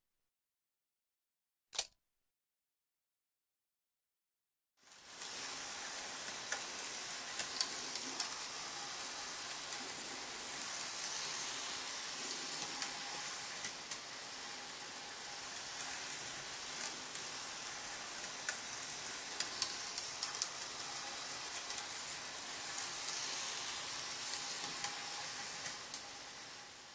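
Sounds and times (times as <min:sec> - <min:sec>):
model tram motor hiss: 0:04.8 - 0:26.9
faint steady whine: 0:04.9 - 0:26.9.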